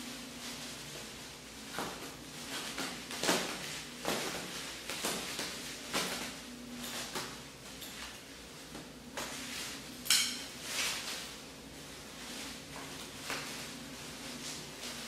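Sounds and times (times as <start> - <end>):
bubble wrap crinkling: 0.0 - 7.7, 10.6 - 15.0.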